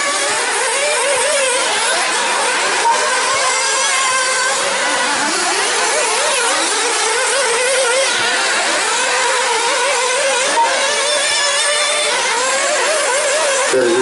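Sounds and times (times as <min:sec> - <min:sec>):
small engines buzzing at high revs: 0:00.0 - 0:14.0.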